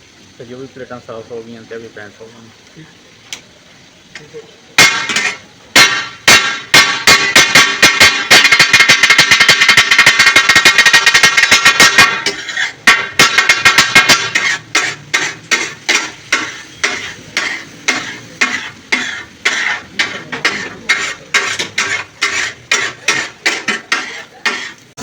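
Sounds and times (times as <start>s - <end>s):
metal utensil scraping metal pot: 4.8s - 25.0s.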